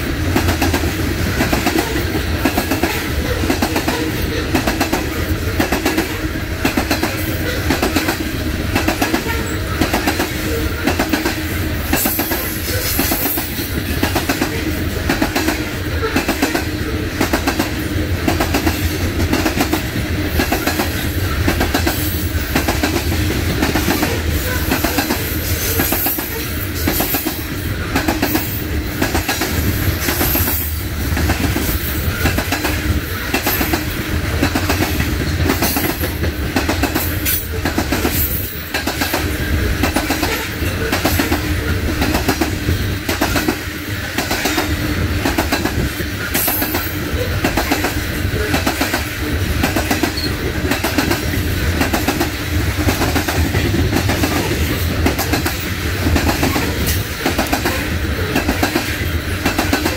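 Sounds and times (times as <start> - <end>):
clickety-clack over rail joints: 0.0 - 59.9
train wheels rumbling on rail: 0.0 - 59.9.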